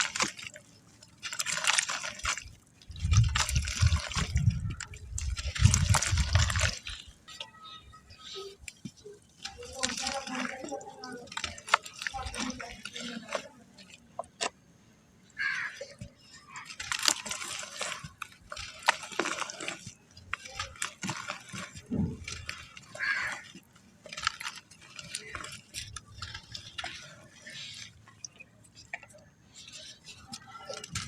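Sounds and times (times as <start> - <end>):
sand crumbling in water: 0.0 - 14.6, 15.2 - 31.0.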